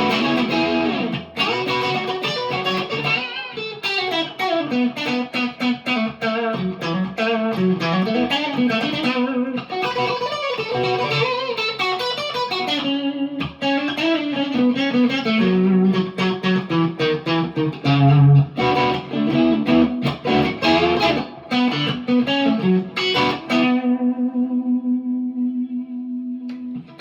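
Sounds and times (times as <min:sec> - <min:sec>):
electric guitar single notes and chords: 0:00.0 - 0:27.0.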